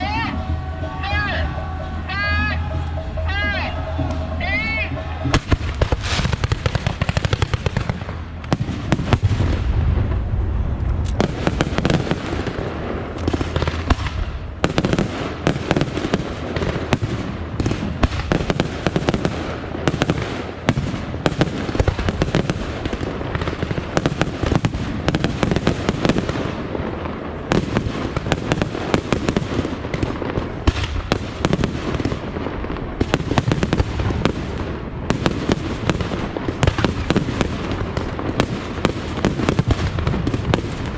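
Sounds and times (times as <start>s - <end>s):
deep firework booms: 4.9s - 40.9s
firework shell bursts and crackle: 5.0s - 10.3s, 10.9s - 40.9s.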